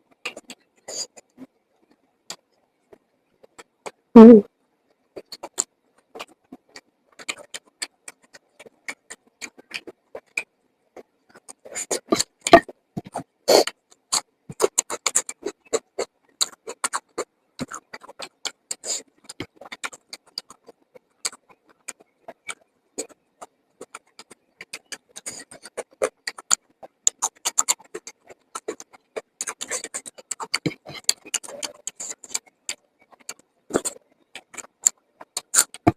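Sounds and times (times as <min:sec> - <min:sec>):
wet chewing and mouth smacks: 0:05.2 - 0:35.9.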